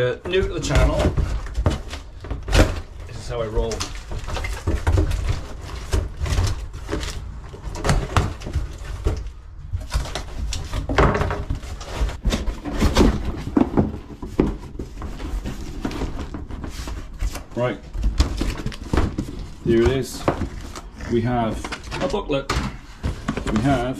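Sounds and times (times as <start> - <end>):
cardboard scraping and tearing: 0.0 - 23.9.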